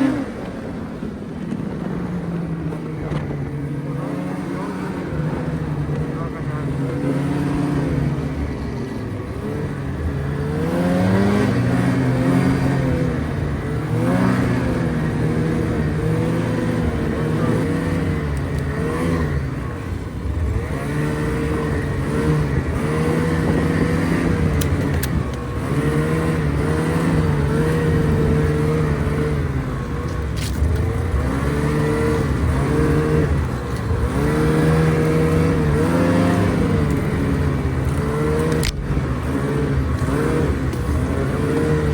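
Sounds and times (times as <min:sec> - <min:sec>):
vehicle engine revving: 0:00.0 - 0:41.9.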